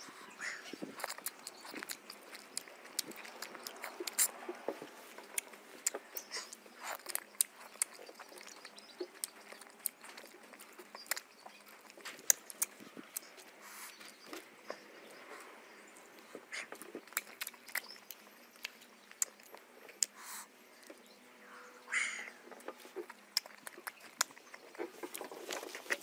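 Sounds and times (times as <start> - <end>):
wet chewing and mouth smacks: 0.1 - 15.5, 16.2 - 21.1, 22.5 - 26.0.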